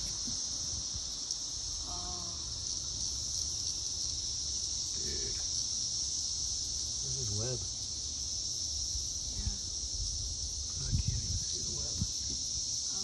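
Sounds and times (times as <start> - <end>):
cicada chorus droning: 0.0 - 13.0.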